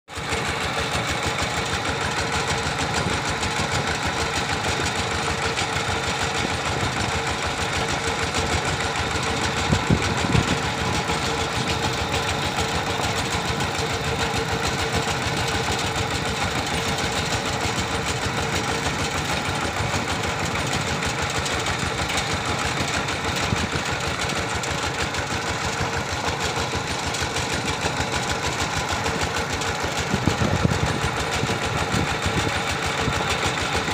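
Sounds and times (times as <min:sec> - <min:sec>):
diesel engine chugging: 0:00.1 - 0:33.9.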